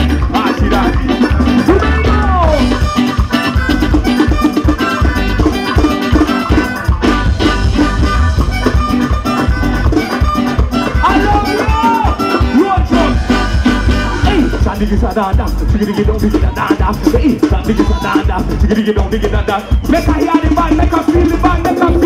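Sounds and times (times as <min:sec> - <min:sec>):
live band playing loudly: 0:00.0 - 0:22.0.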